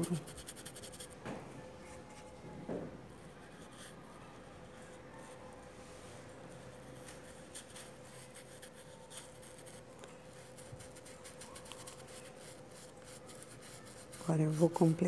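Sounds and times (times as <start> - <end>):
scratchy paintbrush strokes: 0.0 - 1.2, 3.2 - 15.0.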